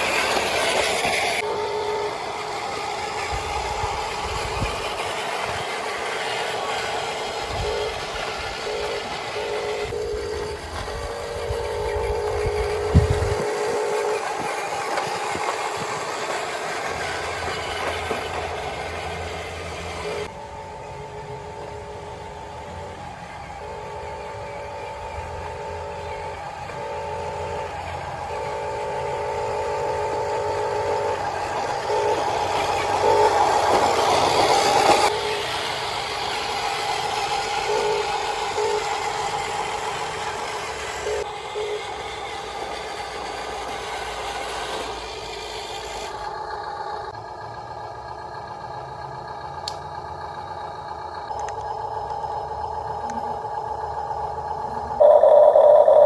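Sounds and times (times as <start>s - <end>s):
toy excavator motor whine: 0.0s - 47.2s, 49.6s - 56.0s.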